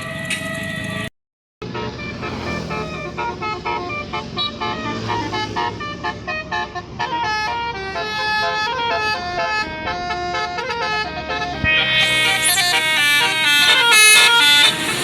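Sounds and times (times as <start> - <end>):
bus musical horn playing a tune: 1.6 - 15.0.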